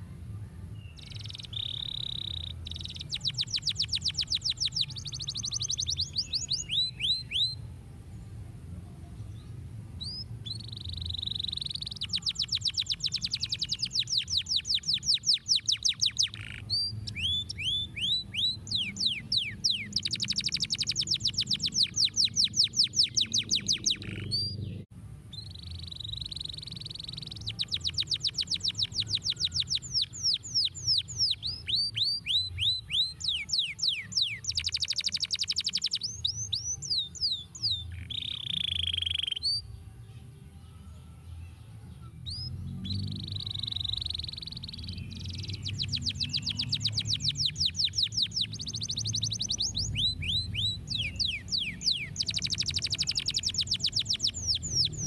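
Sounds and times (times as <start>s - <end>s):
canary singing: 0.7s - 7.7s, 10.0s - 39.8s, 40.6s - 55.0s.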